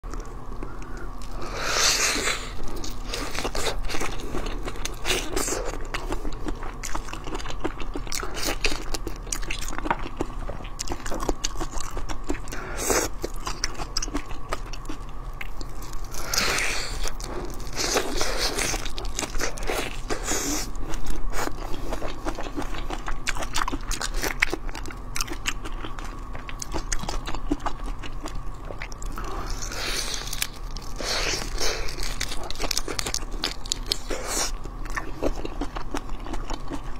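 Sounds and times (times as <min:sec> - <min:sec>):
biting and chewing shrimp: 0:00.0 - 0:36.9
faint electrical hum: 0:00.0 - 0:36.9.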